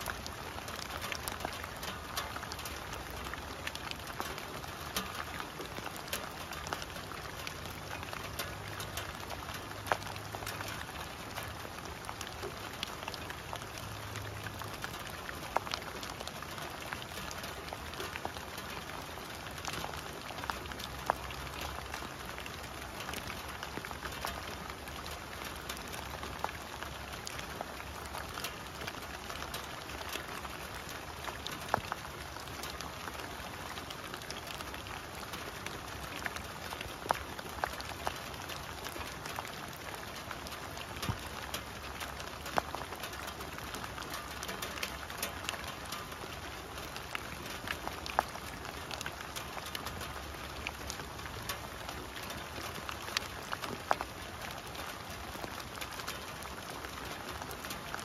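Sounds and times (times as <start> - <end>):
rain on leaves and water: 0.0 - 58.0.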